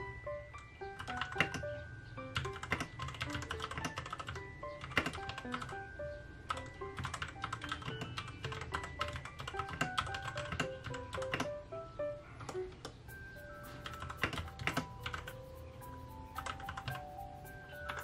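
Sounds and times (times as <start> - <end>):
light background music: 0.0 - 18.0
mechanical keyboard typing: 0.8 - 5.8, 6.4 - 11.6, 12.4 - 18.0.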